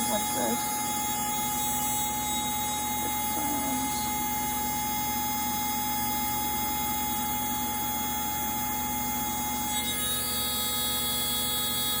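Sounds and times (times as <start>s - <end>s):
alarm panel buzzer: 0.0s - 12.0s.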